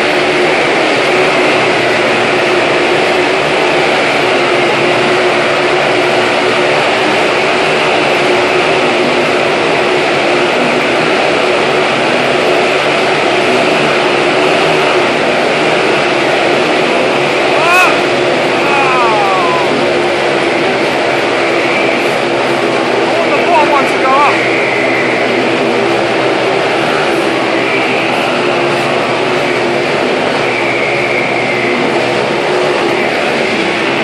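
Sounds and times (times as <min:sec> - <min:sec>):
motorcycle engines droning: 0:00.0 - 0:34.0.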